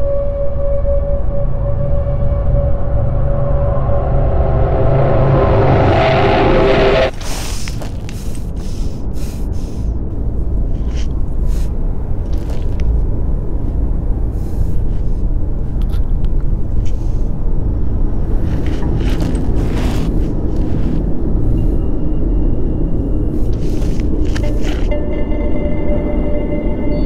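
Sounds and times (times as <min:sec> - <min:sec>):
loud low rumble: 0:00.0 - 0:27.0.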